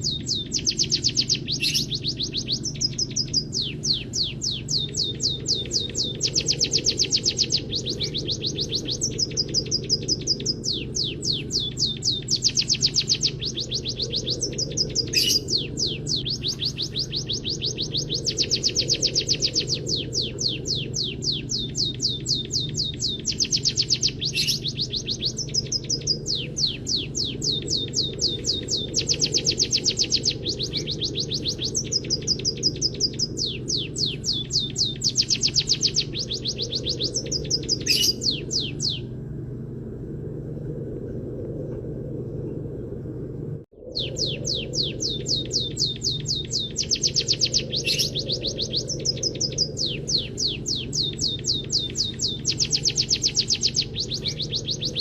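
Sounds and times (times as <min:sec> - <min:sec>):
songbird trilling song: 0:00.0 - 0:39.2, 0:43.8 - 0:55.0
low hum: 0:00.0 - 0:55.0.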